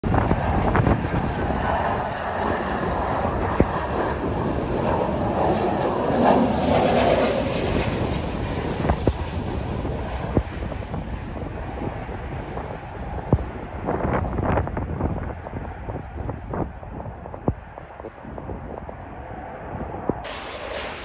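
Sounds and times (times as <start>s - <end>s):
jet engines rushing: 0.0s - 21.0s
wind buffeting microphone: 0.0s - 21.0s.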